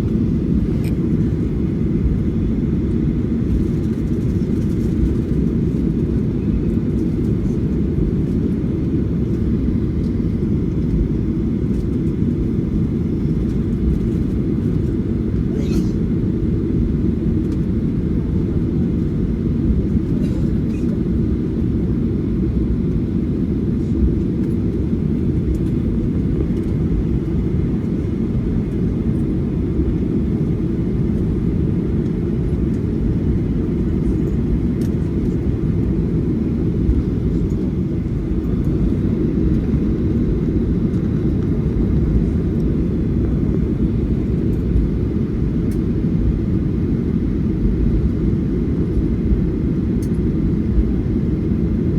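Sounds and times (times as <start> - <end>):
airplane cabin low rumble: 0.0 - 51.9.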